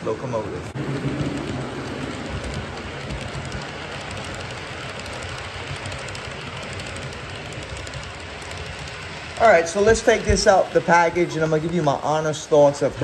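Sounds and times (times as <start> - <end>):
model train wheels rumbling on rail: 0.0 - 13.0
rapid light clicking: 0.8 - 12.2.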